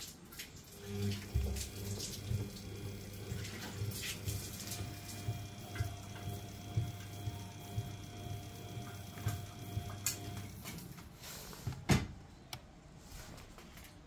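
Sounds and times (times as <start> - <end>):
washing machine motor hum: 0.0 - 12.9.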